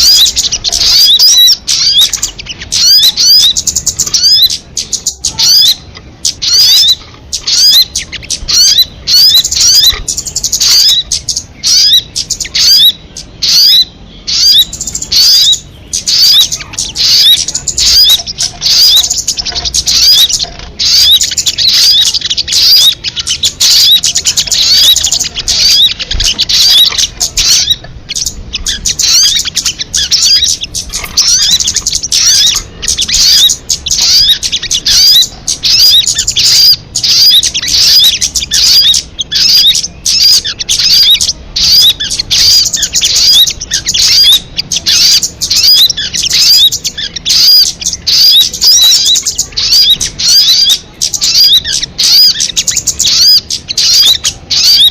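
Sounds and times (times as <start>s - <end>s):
bird chattering high chirps: 0.0s - 54.9s.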